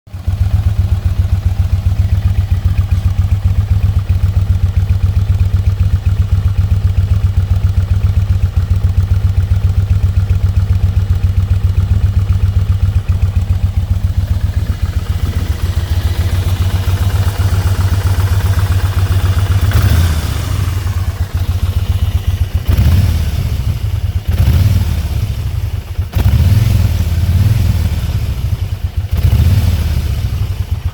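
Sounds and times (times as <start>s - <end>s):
motorcycle engine idling and revving: 0.1s - 30.9s.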